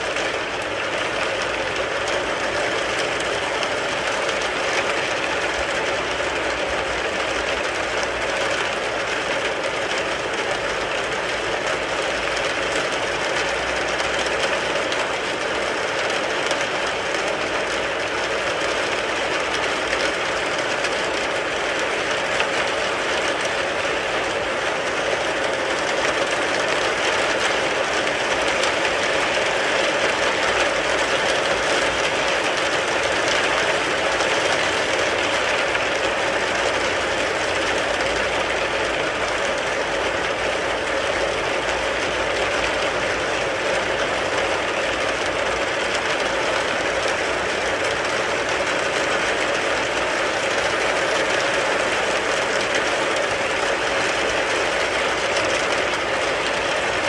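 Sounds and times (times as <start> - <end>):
heavy rain drumming on a car: 0.0 - 57.0.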